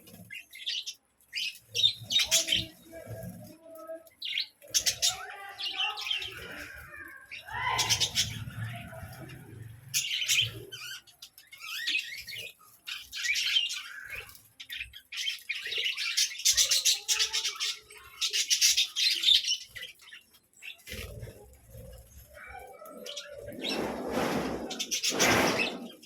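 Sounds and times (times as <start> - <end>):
budgerigars chattering and squawking: 0.1 - 2.9, 4.2 - 26.0.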